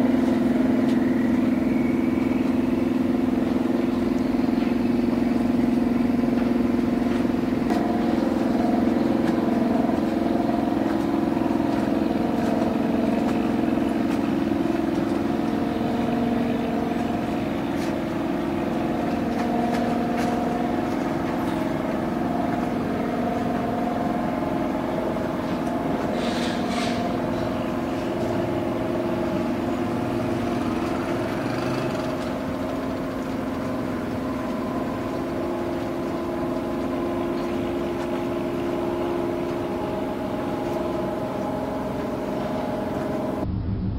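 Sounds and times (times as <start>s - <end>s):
boat engine drone: 0.0s - 43.9s.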